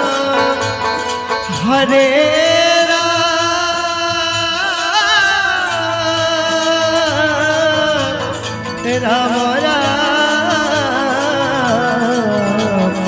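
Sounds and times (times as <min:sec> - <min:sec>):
harmonium: 0:00.0 - 0:13.0.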